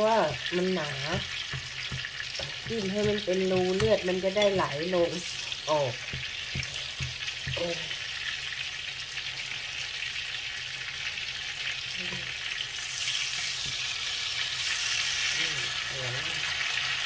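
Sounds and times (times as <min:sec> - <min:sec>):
steaks sizzling in frying pan: 0:00.0 - 0:17.0.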